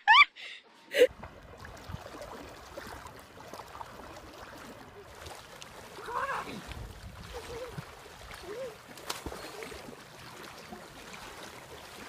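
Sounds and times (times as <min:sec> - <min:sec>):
wading through shallow water: 0:00.9 - 0:12.0.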